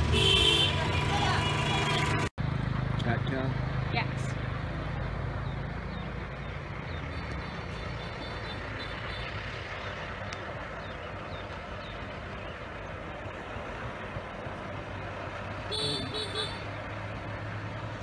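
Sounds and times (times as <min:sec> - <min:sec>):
vehicle engines running: 0:00.0 - 0:18.0.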